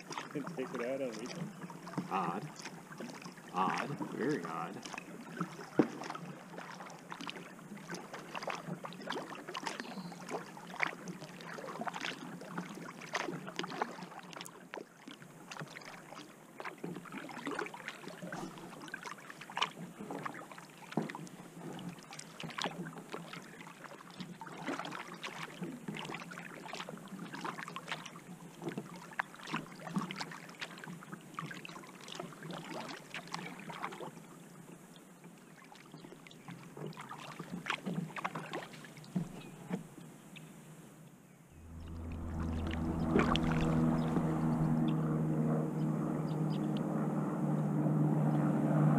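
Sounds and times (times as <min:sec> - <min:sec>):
paddle splashing in water: 0:00.0 - 0:48.9.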